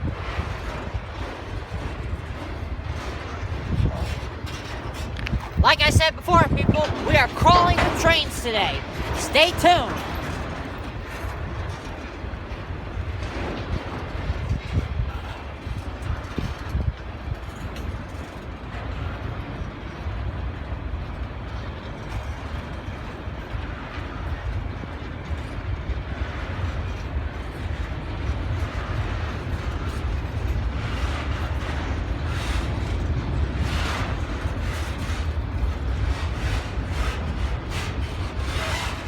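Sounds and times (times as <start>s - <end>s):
train rumbling on tracks: 0.0s - 39.0s.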